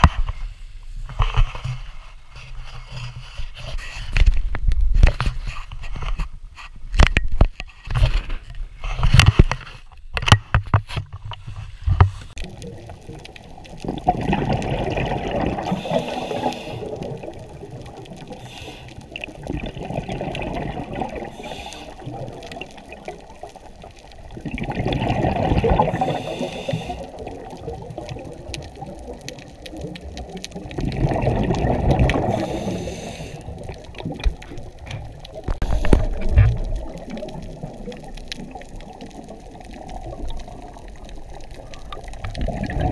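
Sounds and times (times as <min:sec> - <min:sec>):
muffled underwater water rush: 0:00.0 - 0:42.9.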